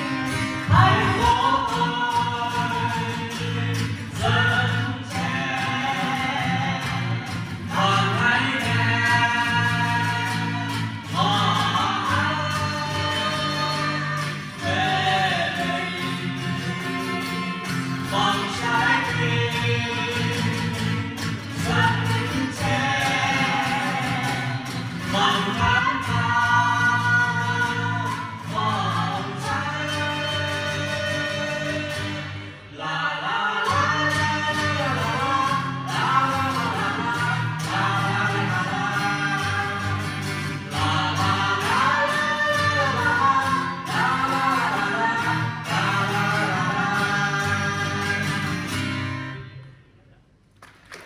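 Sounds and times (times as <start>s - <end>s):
people singing: 0.0s - 49.2s.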